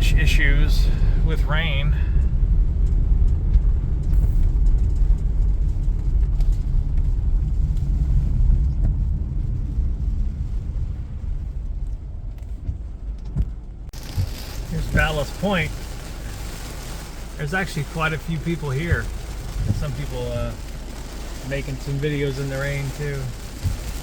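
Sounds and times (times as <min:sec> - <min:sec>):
car rumble from inside cabin: 0:00.0 - 0:24.0.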